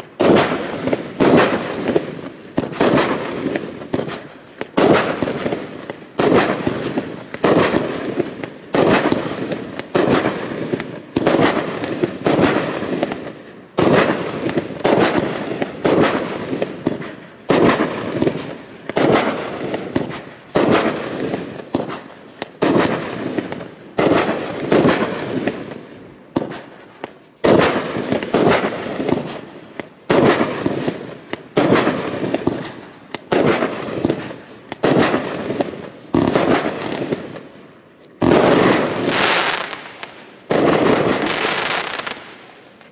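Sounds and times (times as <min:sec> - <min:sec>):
fireworks firing: 0:00.0 - 0:42.9.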